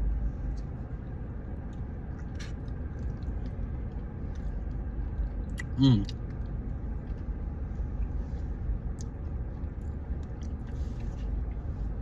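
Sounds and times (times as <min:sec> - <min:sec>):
low background rumble: 0:00.0 - 0:12.0
person chewing food: 0:00.5 - 0:12.0.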